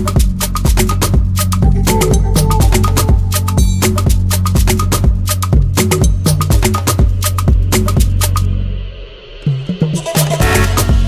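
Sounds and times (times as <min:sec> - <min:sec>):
deep sustained bass: 0:00.0 - 0:11.0
music with percussive beat: 0:00.0 - 0:11.0.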